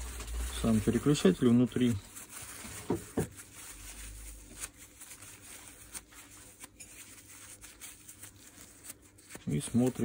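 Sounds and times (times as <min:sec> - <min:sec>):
faint rubbing and handling: 0:00.0 - 0:10.0.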